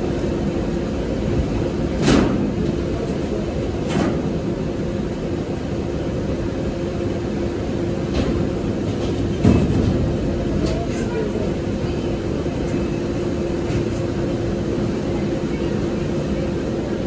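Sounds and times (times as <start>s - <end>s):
conveyor belt machinery drone: 0.0s - 17.0s.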